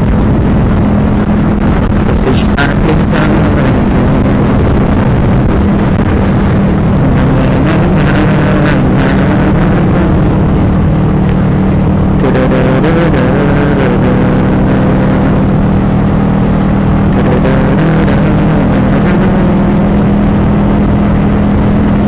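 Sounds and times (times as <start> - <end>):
constant rushing noise: 0.0 - 22.0
motorcycle engine running: 0.0 - 22.0.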